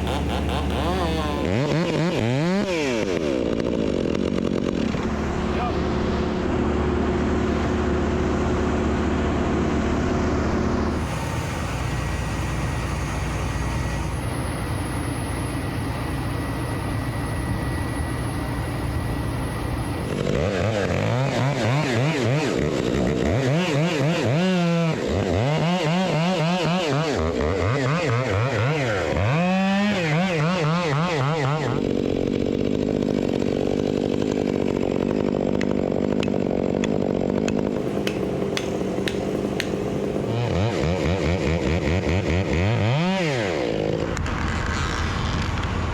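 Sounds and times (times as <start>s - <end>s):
machinery engine humming and revving: 0.0s - 45.9s.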